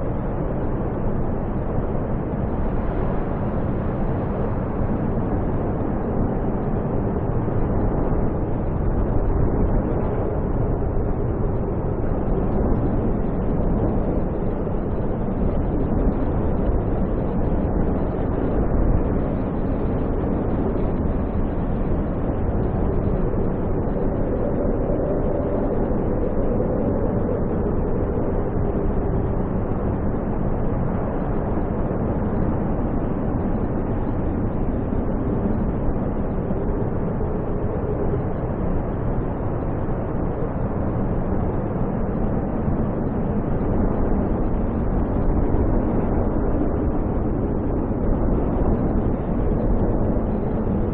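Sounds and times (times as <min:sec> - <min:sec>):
strong roaring wind: 0:00.0 - 0:50.9
whistling moan of wind: 0:00.0 - 0:50.9.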